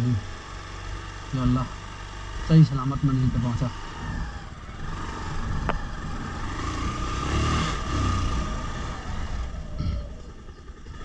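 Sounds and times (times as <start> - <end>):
motorcycle accelerating: 0.0 - 11.0
road noise: 0.0 - 11.0.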